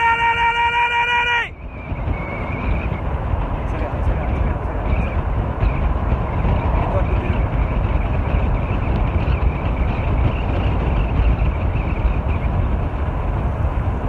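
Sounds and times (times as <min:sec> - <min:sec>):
tyres rumbling on asphalt: 0:00.0 - 0:14.0
wind rushing over microphone: 0:00.0 - 0:14.0.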